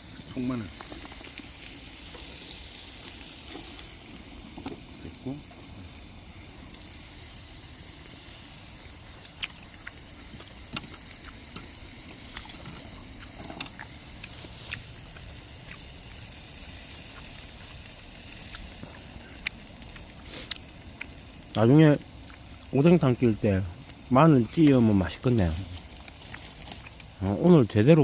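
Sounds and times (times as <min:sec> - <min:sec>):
garlic sizzling in a pan: 0:00.0 - 0:28.0
sharp pops and crackles: 0:00.0 - 0:28.0.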